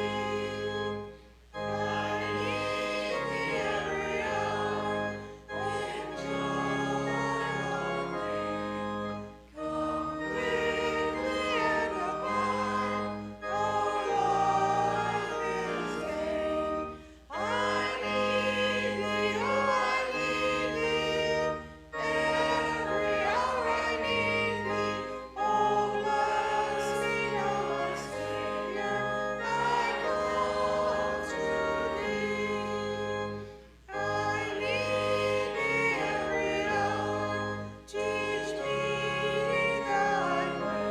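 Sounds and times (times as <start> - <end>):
choir singing a hymn: 0.0 - 40.9
instrumental accompaniment: 0.0 - 40.9.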